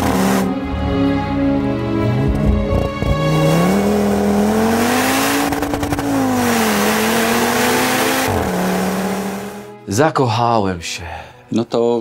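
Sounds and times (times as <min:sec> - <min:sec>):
car engine accelerating: 0:00.0 - 0:09.7.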